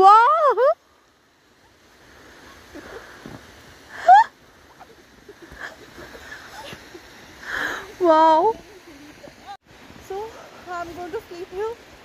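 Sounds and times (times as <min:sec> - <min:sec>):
rustling in deep snow: 0:00.9 - 0:12.0.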